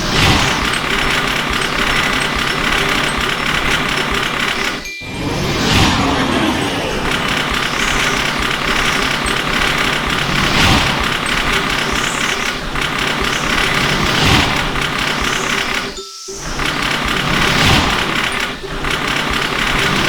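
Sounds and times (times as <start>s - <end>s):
train rail noise: 0.0s - 20.0s.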